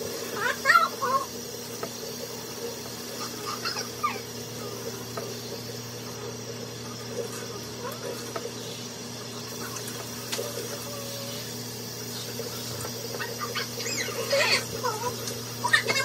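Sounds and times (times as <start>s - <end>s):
steady low hum: 0.0s - 16.0s
water running from faucet sprayer: 0.0s - 16.0s.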